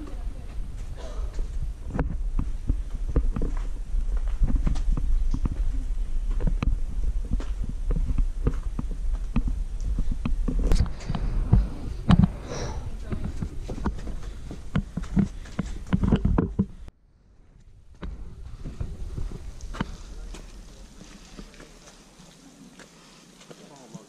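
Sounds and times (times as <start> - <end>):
wind rumble on microphone: 0.0 - 21.9
footsteps on trail: 0.3 - 16.9, 17.9 - 24.0.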